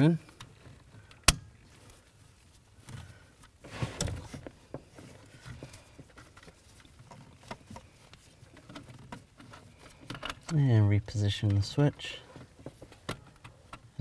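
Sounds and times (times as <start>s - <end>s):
gloved hands rustling: 0.0s - 14.0s.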